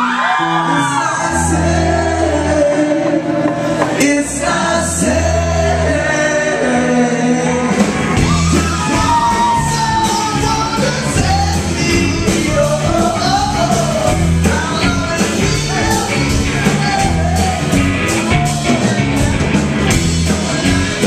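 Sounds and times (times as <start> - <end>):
lead singer's voice: 0.0 - 21.0
live rock band playing: 0.0 - 21.0.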